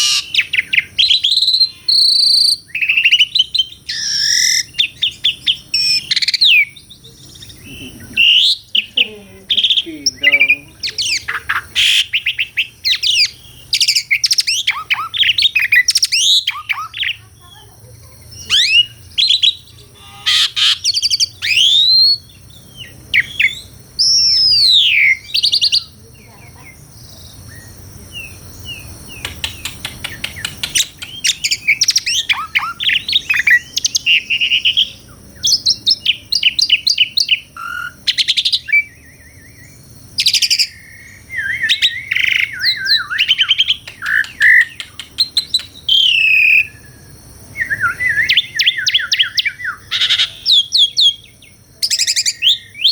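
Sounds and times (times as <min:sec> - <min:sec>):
starling singing whistles and trills: 0:00.0 - 0:52.9.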